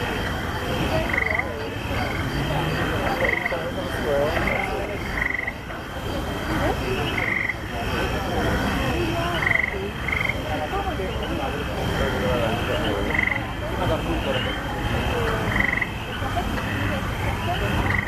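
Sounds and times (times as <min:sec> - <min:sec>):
buzzing croak-like calls: 0:00.0 - 0:18.0
murmur of crowd: 0:00.0 - 0:18.0.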